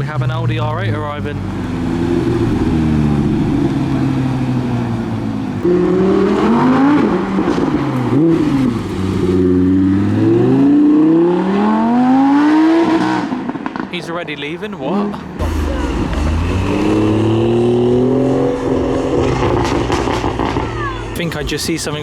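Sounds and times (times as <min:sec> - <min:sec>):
sports car engine revving: 0:00.0 - 0:14.0, 0:15.0 - 0:22.0.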